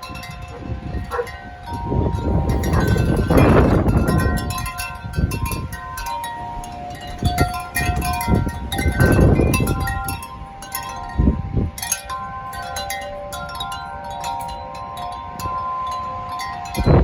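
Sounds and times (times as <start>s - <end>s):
wind chimes ringing: 0.0s - 17.0s
wind rumbling on microphone: 0.0s - 17.0s.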